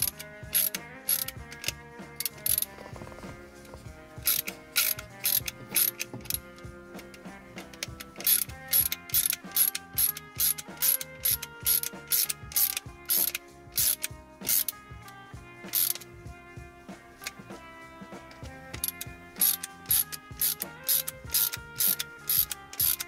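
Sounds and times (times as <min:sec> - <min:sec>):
ratcheting screwdriver clicks: 0:00.0 - 0:02.7, 0:04.2 - 0:16.1, 0:18.8 - 0:23.0.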